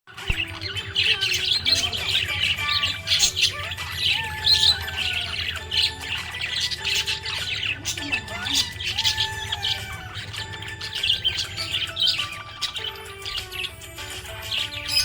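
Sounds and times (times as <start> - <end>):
budgerigar chirping: 0.2 - 15.0.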